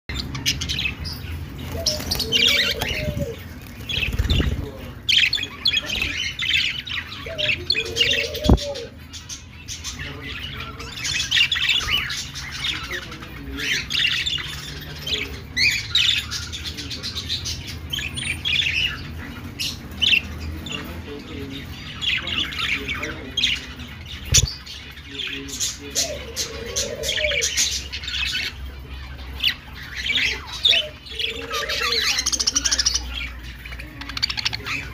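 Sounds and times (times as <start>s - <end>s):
budgerigars chattering and warbling: 0.1s - 34.9s.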